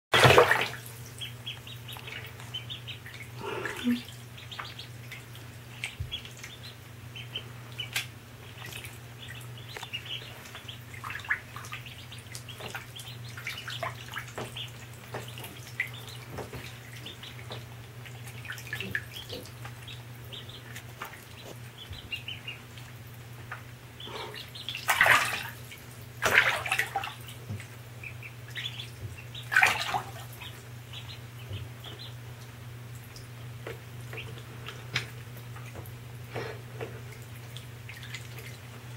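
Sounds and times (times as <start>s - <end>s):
ducklings peeping: 0.2s - 38.9s
steady low hum: 0.2s - 38.9s.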